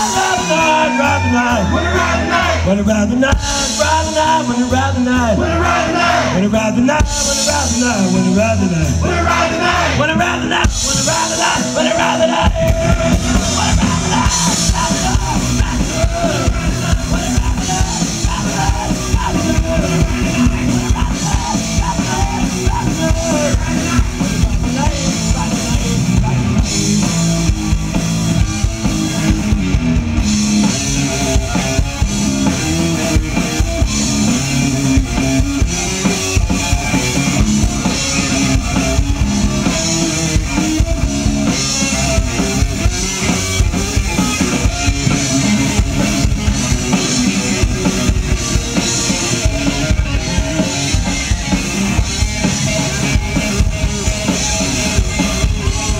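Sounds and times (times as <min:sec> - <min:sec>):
drum kit beat: 0:00.0 - 0:55.9
rock band playing: 0:00.0 - 0:55.9.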